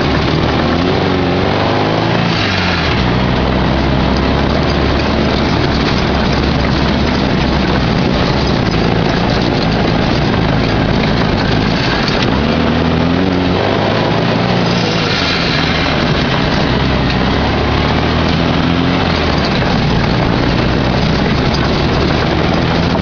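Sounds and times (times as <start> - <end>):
dune buggy engine under load: 0.0 - 23.0
steady rush of noise: 0.0 - 23.0.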